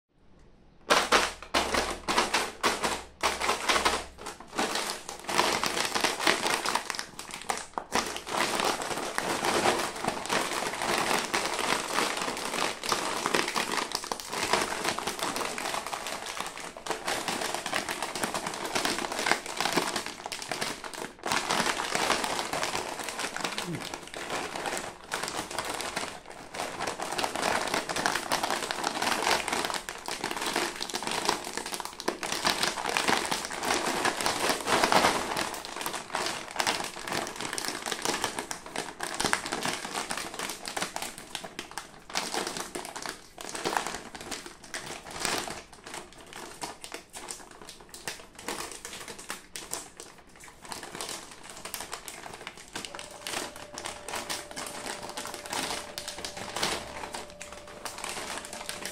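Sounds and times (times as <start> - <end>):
chip packet crinkling: 0.8 - 58.9.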